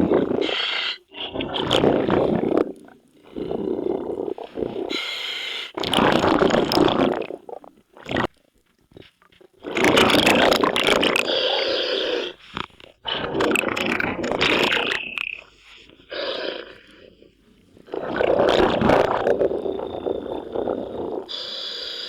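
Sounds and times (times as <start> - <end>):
exhaled bubbles underwater: 0.0 - 5.0, 5.8 - 21.6
diver breathing through regulator: 0.0 - 6.7, 9.7 - 22.0.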